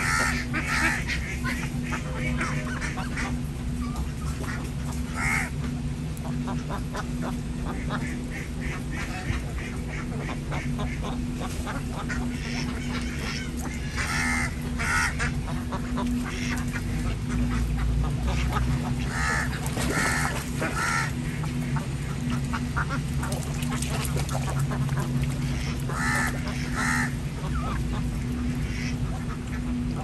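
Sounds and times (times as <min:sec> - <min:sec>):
ducks quacking: 0:00.0 - 0:30.0
ducks splashing in water: 0:00.0 - 0:30.0
steady low hum: 0:00.0 - 0:30.0.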